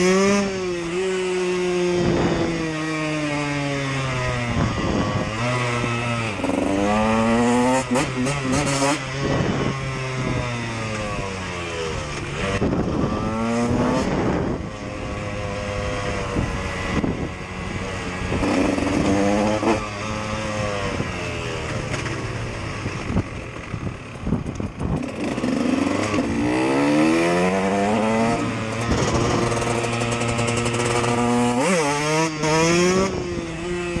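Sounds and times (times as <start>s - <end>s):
motorcycle engine revving hard: 0.0s - 34.0s.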